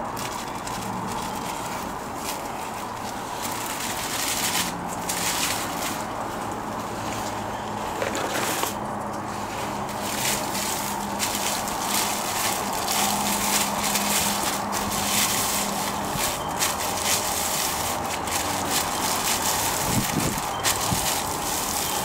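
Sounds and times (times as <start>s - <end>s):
plastic bag crinkling: 0.0s - 22.0s.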